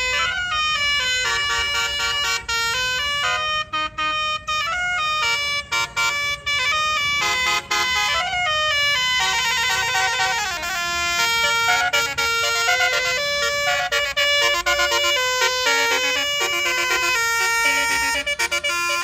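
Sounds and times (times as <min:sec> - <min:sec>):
multi-tone bus horn melody: 0:00.0 - 0:19.0.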